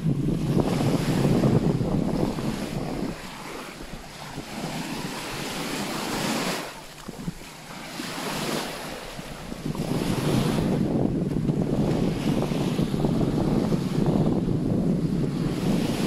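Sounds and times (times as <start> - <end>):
small waves washing ashore: 0.0 - 16.0
wind buffeting microphone: 0.0 - 16.0.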